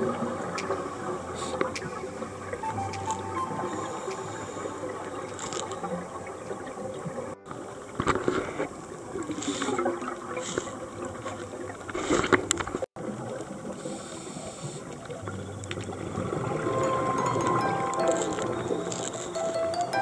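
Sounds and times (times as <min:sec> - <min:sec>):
steady water hiss: 0:00.0 - 0:19.9.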